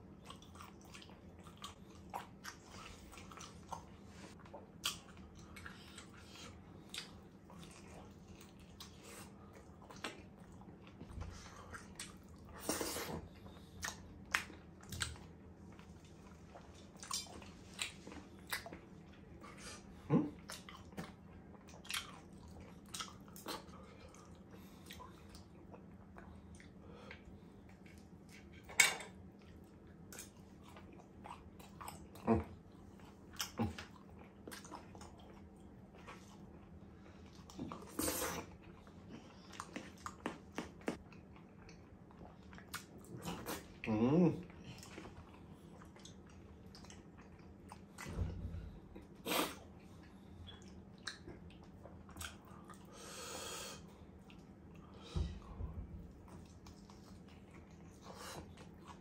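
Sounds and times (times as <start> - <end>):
chewing food: 0.0 - 59.0
faint low hum: 0.0 - 59.0.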